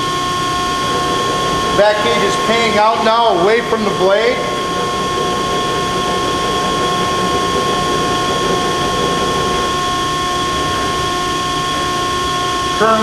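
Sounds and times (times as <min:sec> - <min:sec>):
hydraulic shear whining hum: 0:00.0 - 0:13.0.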